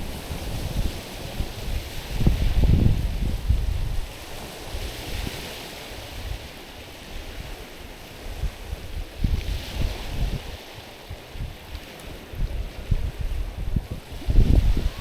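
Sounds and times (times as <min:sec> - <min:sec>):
small waves washing over stones: 0:00.0 - 0:15.0
wind buffeting microphone: 0:00.0 - 0:15.0.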